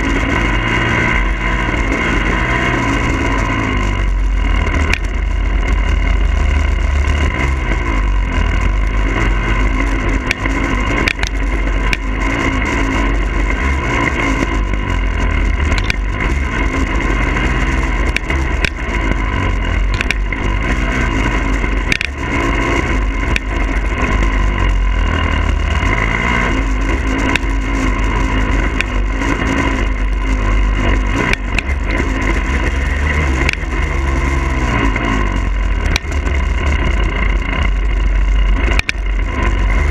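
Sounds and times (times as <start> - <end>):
dirt bike engine revving: 0.0 - 39.9
low rumble: 0.0 - 39.9.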